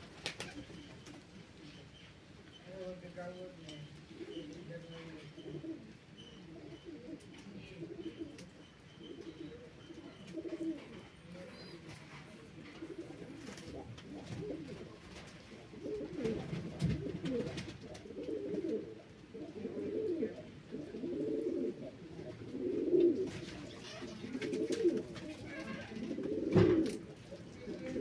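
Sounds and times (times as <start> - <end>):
pigeons cooing: 0.0 - 2.3, 3.4 - 28.0.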